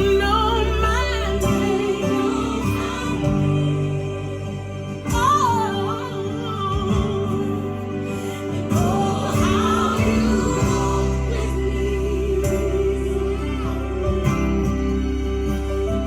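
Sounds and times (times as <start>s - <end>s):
solo voice singing: 0.0s - 14.3s
held chords and bass line: 0.0s - 16.0s.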